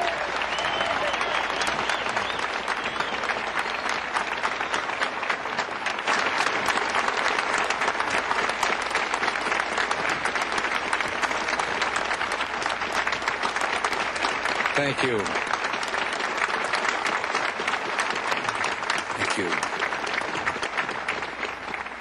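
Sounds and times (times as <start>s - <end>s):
large crowd applauding: 0.0s - 22.0s.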